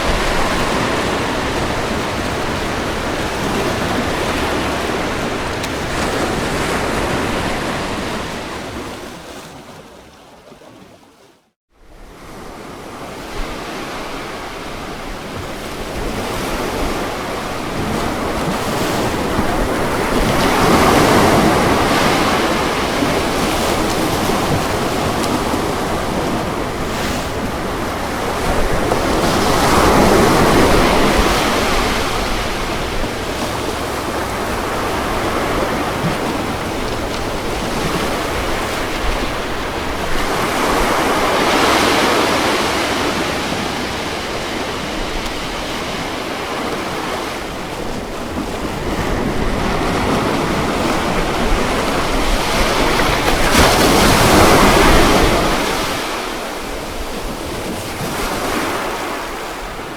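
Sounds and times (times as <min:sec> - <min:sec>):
ocean surf breaking: 0:00.0 - 0:10.1, 0:12.0 - 0:59.9.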